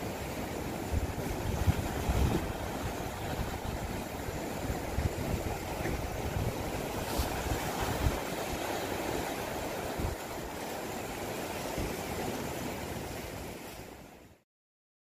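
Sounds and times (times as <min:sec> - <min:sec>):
surf breaking over rocks: 0:00.0 - 0:14.2.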